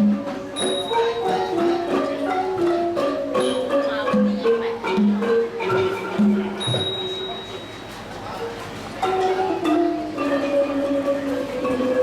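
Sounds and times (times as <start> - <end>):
wooden xylophones playing: 0.0 - 7.9, 8.9 - 12.0.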